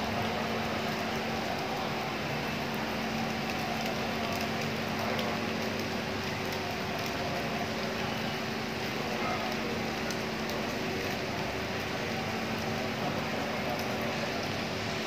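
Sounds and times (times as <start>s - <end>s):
faint drips: 0.0s - 15.0s
heavy rain falling: 0.0s - 15.0s.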